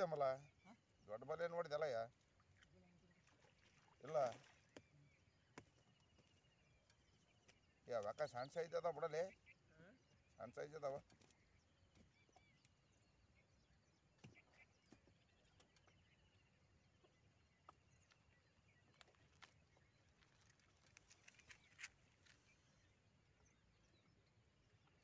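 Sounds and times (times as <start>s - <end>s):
faint bird chirping: 0.0s - 25.0s.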